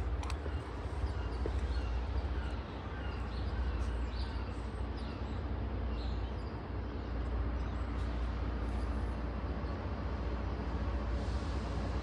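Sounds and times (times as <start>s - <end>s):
distant train rumble: 0.0s - 12.0s.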